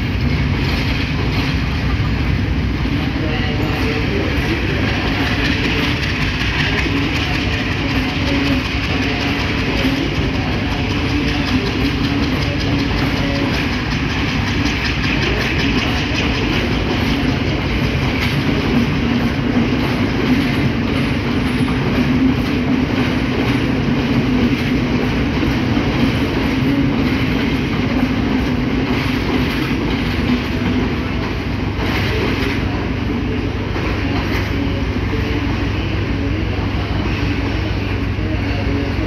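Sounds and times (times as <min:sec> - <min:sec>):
train carriages rumbling: 0:00.0 - 0:39.0.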